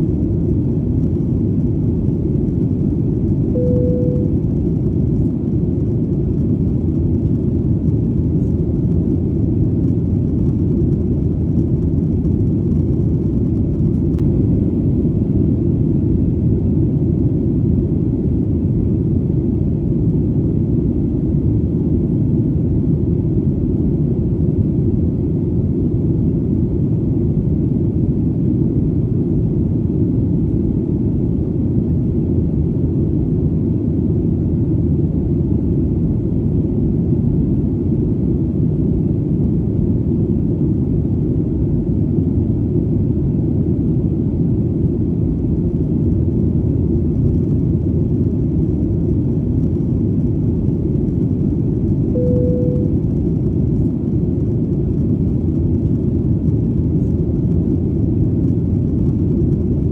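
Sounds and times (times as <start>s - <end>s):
airplane engine rumble: 0.0s - 59.9s.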